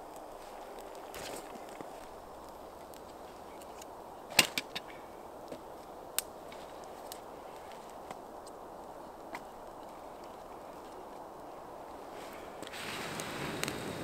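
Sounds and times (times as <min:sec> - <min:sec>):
campfire hiss: 0:00.0 - 0:14.0.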